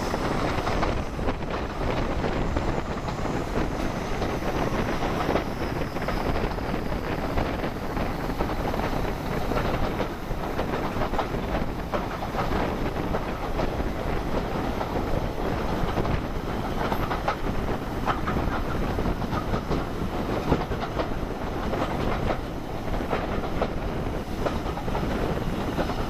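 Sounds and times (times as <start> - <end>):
diesel locomotive engine working hard: 0.0 - 26.0
train wheels on rails: 0.0 - 26.0
wind buffeting microphone: 0.0 - 26.0.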